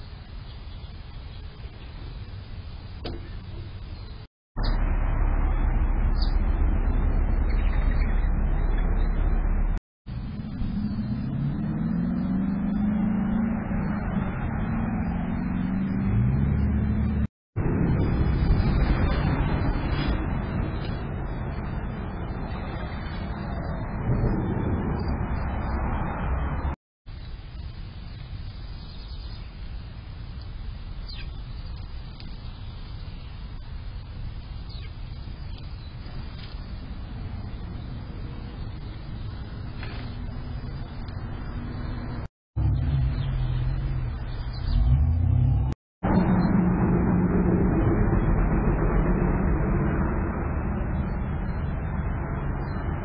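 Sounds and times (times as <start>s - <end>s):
low outdoor rumble: 0.0s - 53.0s
low engine drone: 2.1s - 27.9s, 35.4s - 53.0s.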